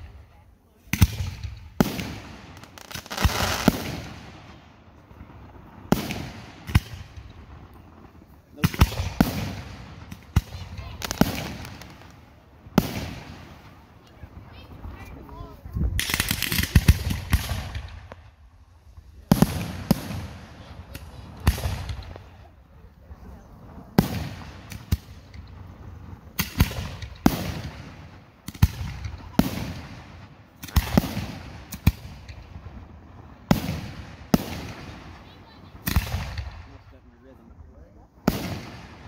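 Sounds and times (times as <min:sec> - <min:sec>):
fireworks bangs: 0:00.0 - 0:39.0
fireworks pops and crackle: 0:00.8 - 0:36.9, 0:38.2 - 0:39.0.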